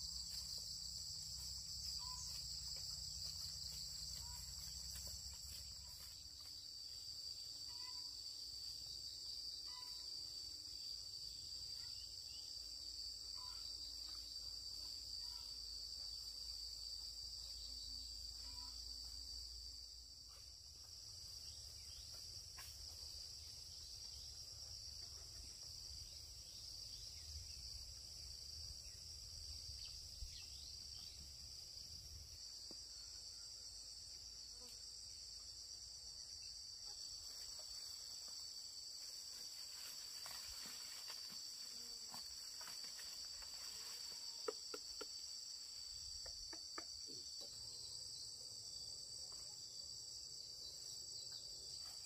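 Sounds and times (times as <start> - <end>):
insect chorus trilling: 0.0 - 52.0.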